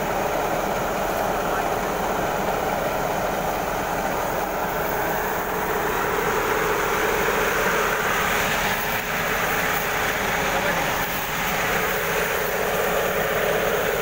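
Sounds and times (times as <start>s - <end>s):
threshing machine running: 0.0s - 14.0s.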